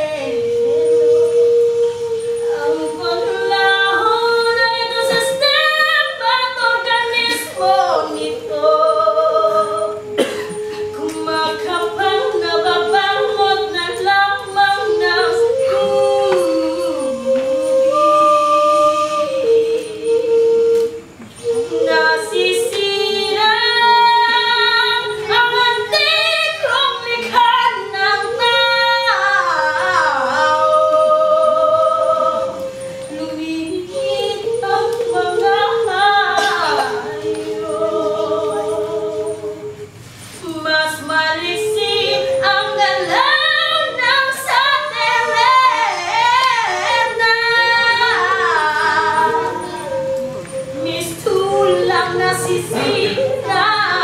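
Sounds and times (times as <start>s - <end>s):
voices singing together: 0.0s - 54.0s.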